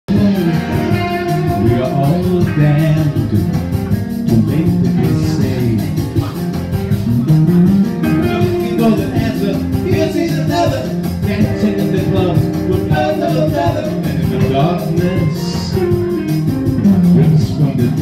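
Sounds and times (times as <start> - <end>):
man singing into a microphone: 0.1 - 6.7, 8.1 - 18.0
electric guitar playing: 0.1 - 18.0.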